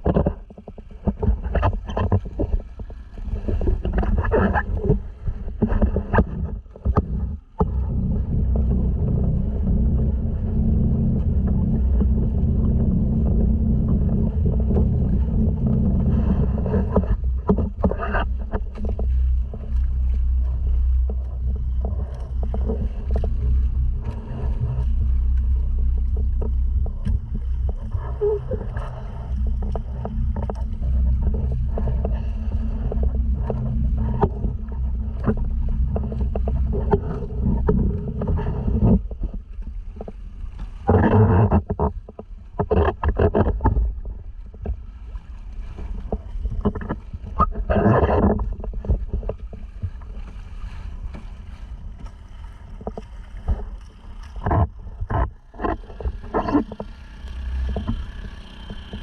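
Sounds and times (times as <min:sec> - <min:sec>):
motor low rumble: 0:00.0 - 0:59.0
water splashes: 0:00.0 - 0:59.0.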